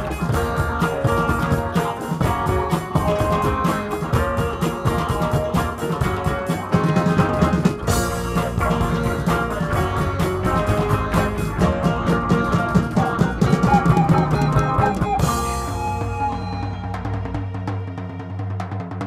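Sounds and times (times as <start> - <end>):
electric guitars: 0.0 - 18.2
keyboards: 0.0 - 19.0
tabla drumming: 0.0 - 19.0.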